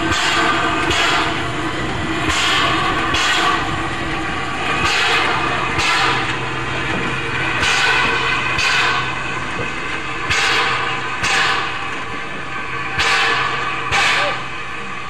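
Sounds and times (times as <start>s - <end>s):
steam locomotive exhaust chuffs: 0.0s - 15.0s.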